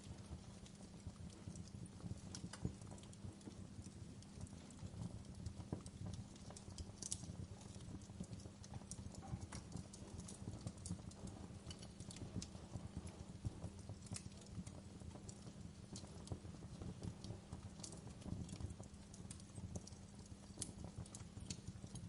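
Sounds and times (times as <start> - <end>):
low rumble of burning: 0.0 - 22.0
wood fire crackling and popping: 0.0 - 22.0.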